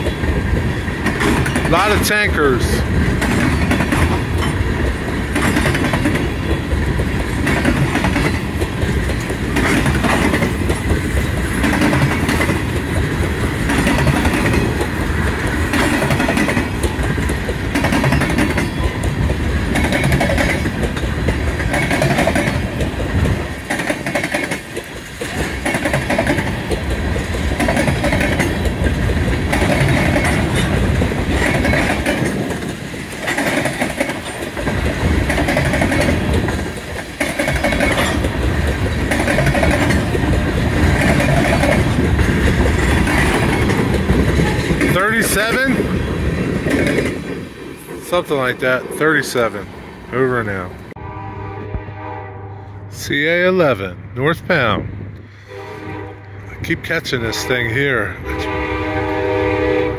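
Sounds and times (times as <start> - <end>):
train wheels clicking over rail joints: 0.0 - 51.0
train rumble: 0.0 - 59.9.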